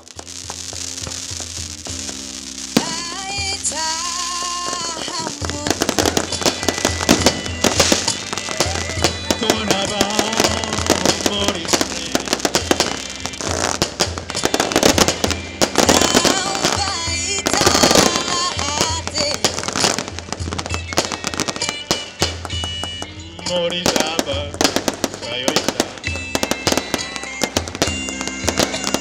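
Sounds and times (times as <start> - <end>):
fireworks bursting and crackling: 0.0 - 29.0
music playing: 0.0 - 29.0.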